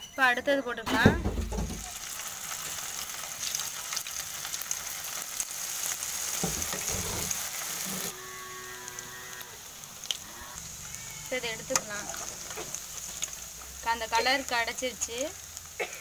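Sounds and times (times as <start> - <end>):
food deep-frying in hot oil: 1.0 - 16.0.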